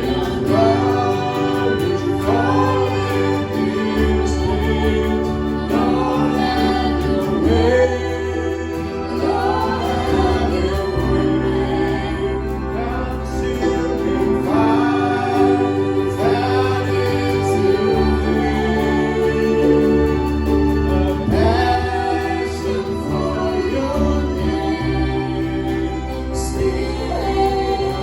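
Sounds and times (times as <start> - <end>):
held chords and bass: 0.0 - 28.0
voices singing worship song: 0.0 - 28.0.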